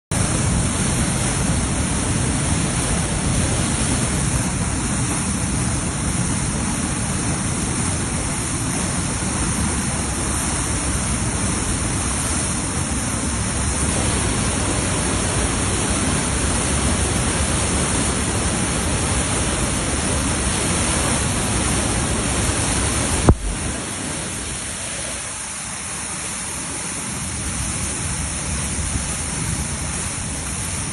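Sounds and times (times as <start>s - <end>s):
floodwater rushing: 0.1s - 30.9s.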